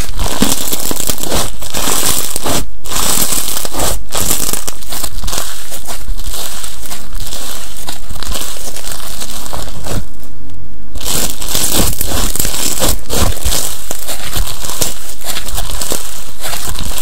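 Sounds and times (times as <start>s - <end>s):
slime crackling and popping: 0.0s - 10.2s, 11.0s - 17.0s.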